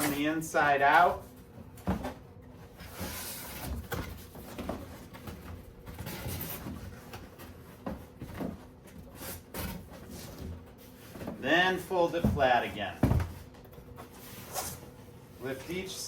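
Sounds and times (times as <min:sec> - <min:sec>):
cardboard rustling and scraping: 0:00.0 - 0:16.0.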